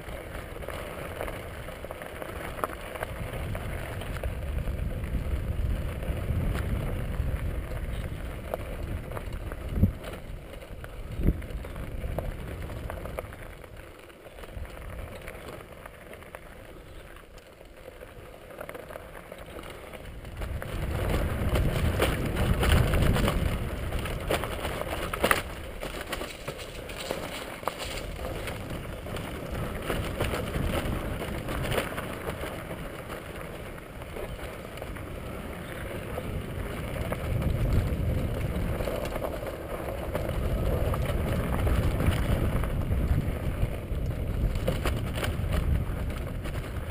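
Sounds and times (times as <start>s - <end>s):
wind rumbling on microphone: 0.0s - 18.7s, 19.4s - 46.9s
bicycle tyres crunching gravel: 0.0s - 46.9s
bike rattle: 0.0s - 46.9s.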